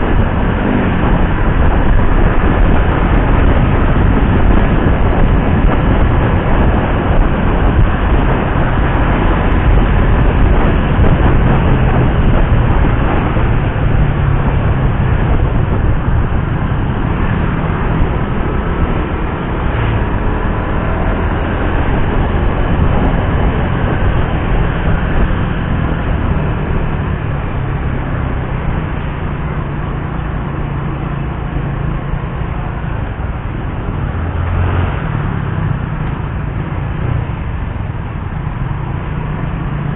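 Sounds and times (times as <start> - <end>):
motorcycle engine running: 0.0 - 34.1
heavy wind noise: 0.0 - 39.9
road noise: 0.0 - 39.9.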